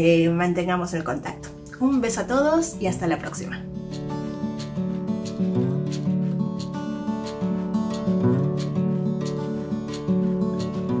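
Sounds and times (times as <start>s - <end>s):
instrumental music sustained chords: 1.3s - 11.0s.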